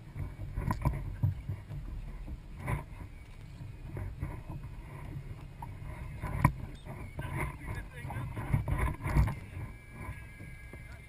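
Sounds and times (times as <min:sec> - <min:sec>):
water and wind rumble: 0:00.0 - 0:11.0.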